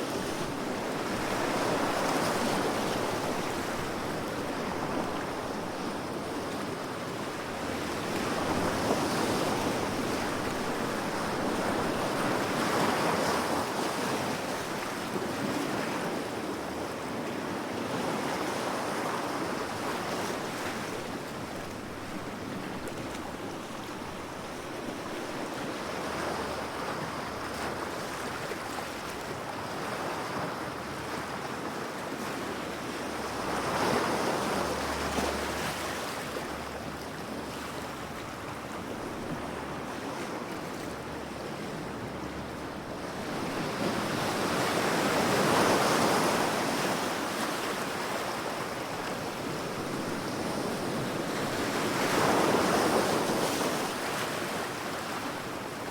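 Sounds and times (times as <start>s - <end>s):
ocean waves washing onto shore: 0.0s - 55.9s.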